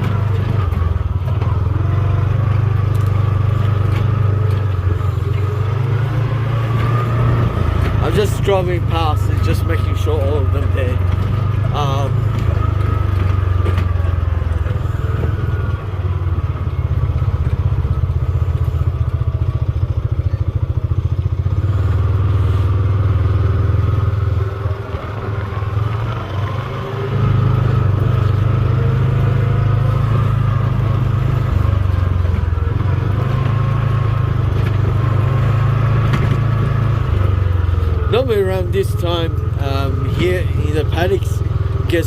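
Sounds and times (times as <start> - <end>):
farm vehicle engine running: 0.0 - 42.0.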